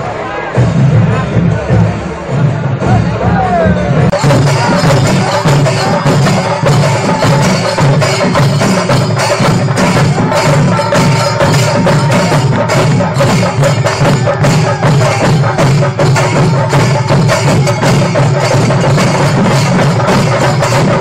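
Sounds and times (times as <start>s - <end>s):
drums beaten fast with sticks: 0.0s - 21.0s
hand cymbals clashing: 4.1s - 21.0s.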